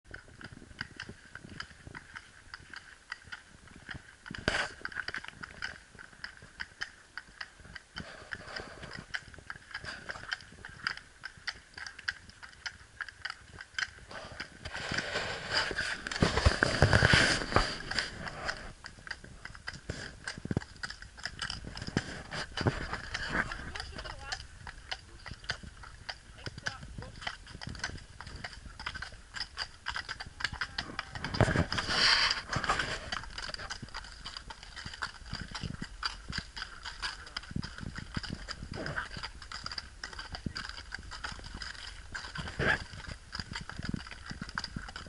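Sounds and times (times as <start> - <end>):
horse hooves on pavement: 0.0 - 45.0.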